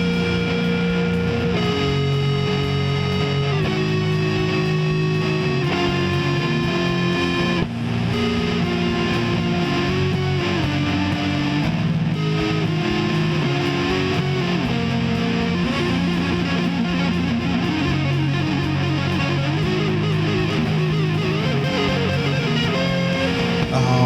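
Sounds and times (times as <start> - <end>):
distorted electric guitars playing: 0.0 - 24.0.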